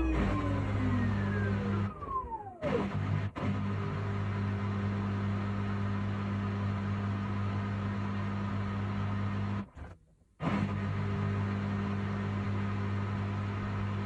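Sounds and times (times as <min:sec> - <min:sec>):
washing machine humming and whirring: 0:00.0 - 0:14.0.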